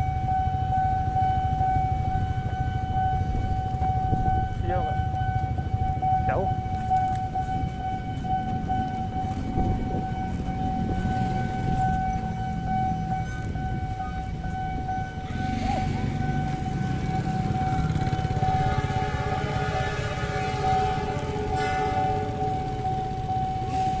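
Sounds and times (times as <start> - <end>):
level crossing alarm tone: 0.0 - 24.0
low rumble of traffic: 0.0 - 24.0.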